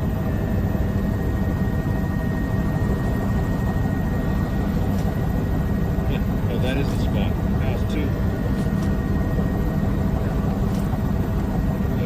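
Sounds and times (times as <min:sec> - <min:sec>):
low mechanical rumble: 0:00.0 - 0:12.0
thin steady whine: 0:00.0 - 0:12.0.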